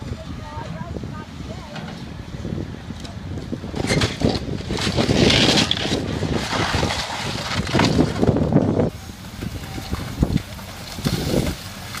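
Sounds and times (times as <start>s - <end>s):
heavy machinery rumbling: 0.0s - 12.0s
wind buffeting microphone: 0.0s - 12.0s.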